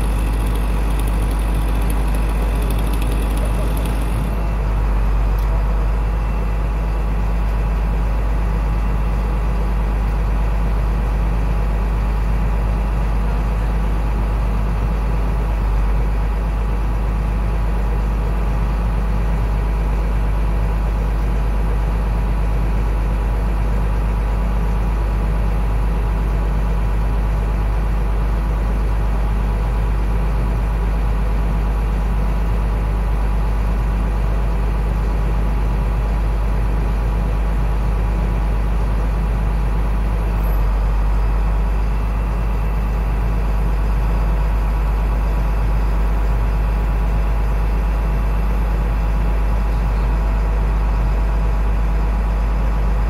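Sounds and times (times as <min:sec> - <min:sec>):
heavy machine engine idling: 0:00.0 - 0:53.0.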